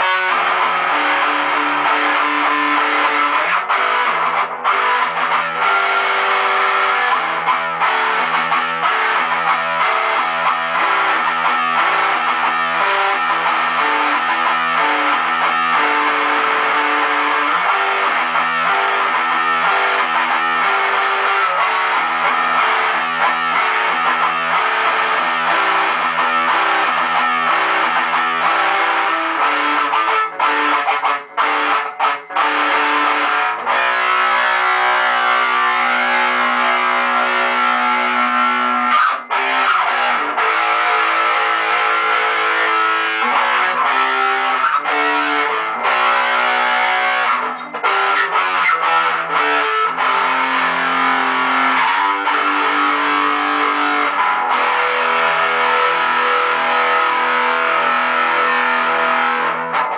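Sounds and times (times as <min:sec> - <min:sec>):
distorted electric guitar melody: 0:00.0 - 0:59.9.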